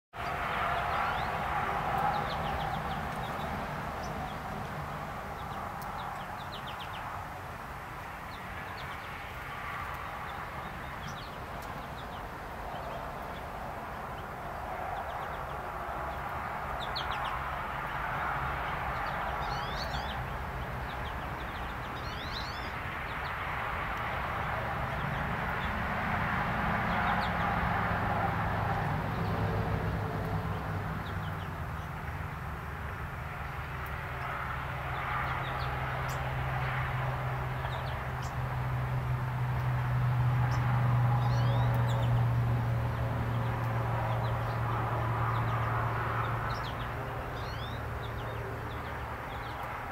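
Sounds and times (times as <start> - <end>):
birds chirping: 0.2 - 49.9.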